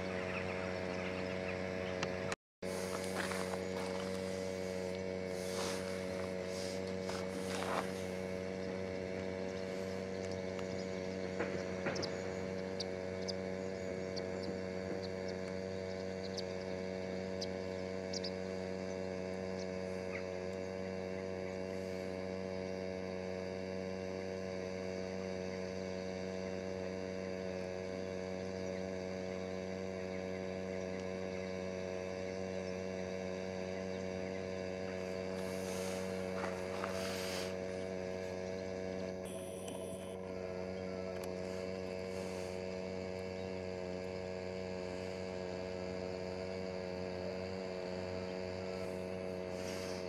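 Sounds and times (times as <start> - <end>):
steady hum of held tones: 0.0 - 50.0.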